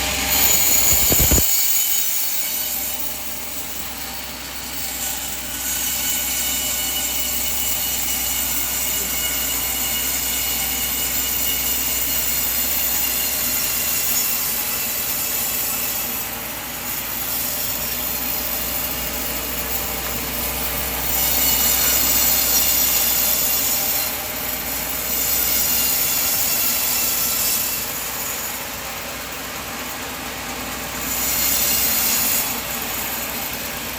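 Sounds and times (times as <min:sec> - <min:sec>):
band saw whining through log: 0:00.0 - 0:33.9.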